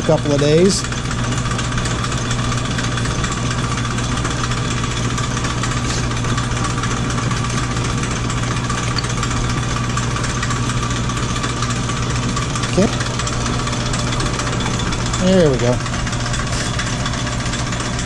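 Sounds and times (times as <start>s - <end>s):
lathe humming: 0.0s - 18.0s.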